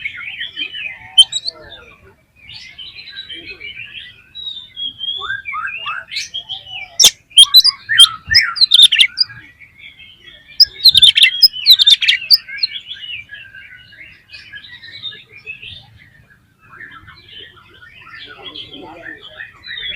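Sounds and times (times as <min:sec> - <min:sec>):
bird singing whistles and chatter: 0:00.0 - 0:19.9.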